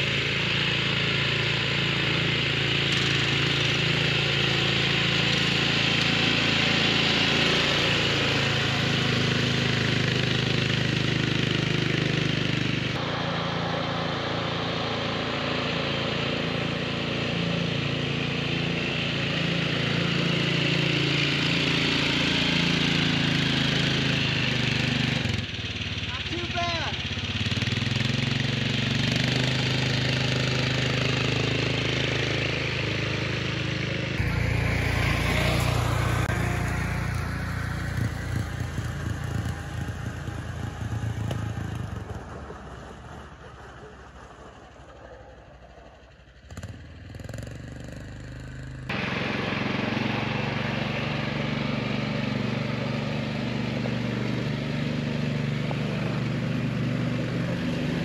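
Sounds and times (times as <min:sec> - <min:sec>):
small vehicle engine running: 0:00.0 - 0:58.0.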